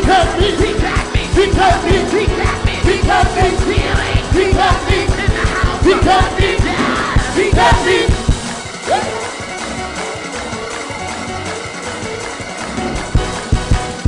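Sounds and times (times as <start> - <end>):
gospel choir singing: 0.0 - 13.0
band playing: 0.0 - 14.0
fast driving drum beat: 0.0 - 14.0.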